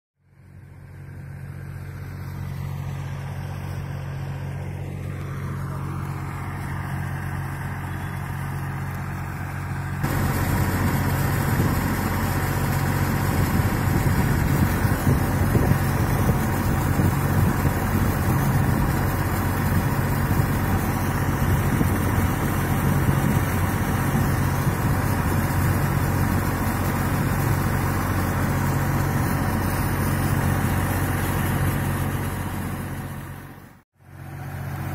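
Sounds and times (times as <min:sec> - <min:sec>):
tractor engine running: 0:00.2 - 0:34.9
water gushing from pipe: 0:02.0 - 0:34.9.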